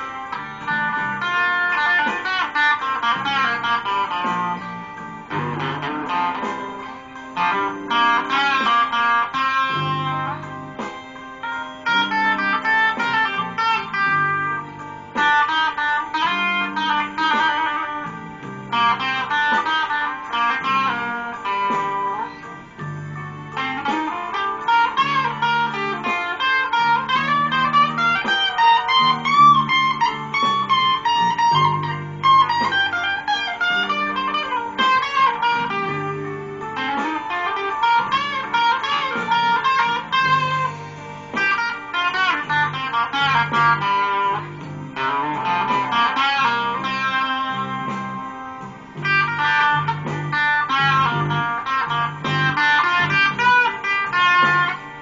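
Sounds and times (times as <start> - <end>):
electric guitar blues lead: 0.0 - 55.0
walking electric bass line: 0.0 - 55.0.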